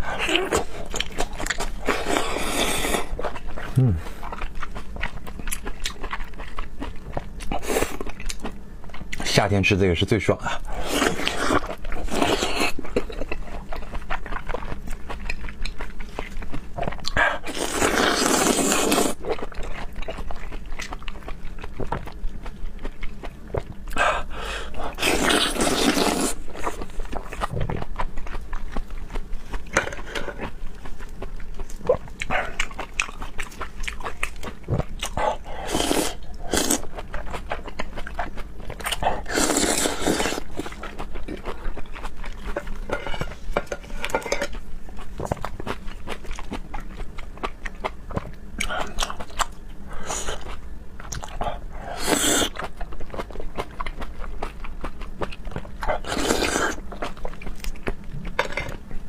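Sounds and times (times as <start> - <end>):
wet chewing: 0.0 - 9.3, 10.6 - 58.9.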